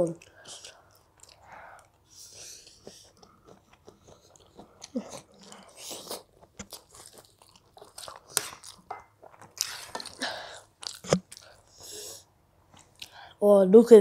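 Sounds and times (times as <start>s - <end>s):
child chewing wetly: 0.0s - 13.4s.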